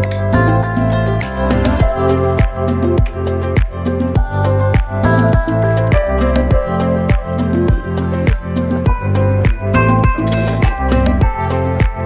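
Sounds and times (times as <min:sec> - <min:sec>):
low kick drum beat: 0:01.8 - 0:12.0.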